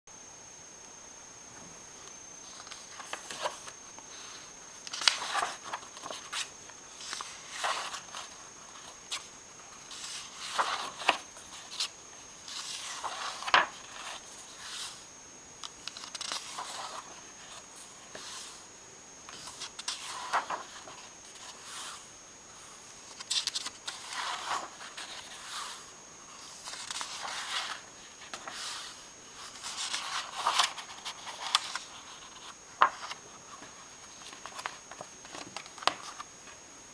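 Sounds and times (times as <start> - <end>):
book pages turning: 2.4 - 15.0, 15.6 - 18.6, 19.3 - 22.0, 22.9 - 36.6.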